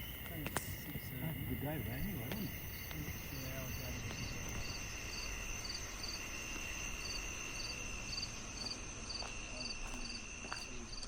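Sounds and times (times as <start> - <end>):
insects trilling: 0.0 - 11.0
pulsed cricket chirp: 0.0 - 11.0.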